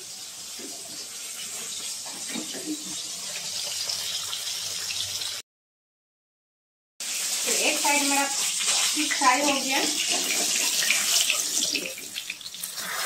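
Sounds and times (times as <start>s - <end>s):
fish sizzling in hot oil: 0.0s - 5.4s, 7.0s - 13.0s.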